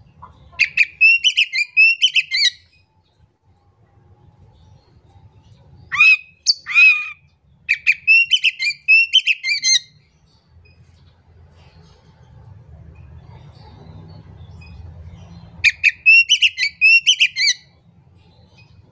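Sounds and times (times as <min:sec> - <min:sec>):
bird singing: 0:00.0 - 0:03.6, 0:04.3 - 0:11.2, 0:13.0 - 0:18.9.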